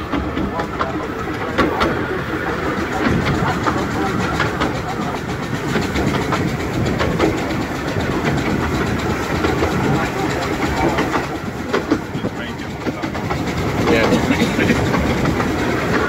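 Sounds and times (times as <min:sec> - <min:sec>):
train rumbling: 0:00.0 - 0:16.0
wheels clattering over rails: 0:00.0 - 0:16.0.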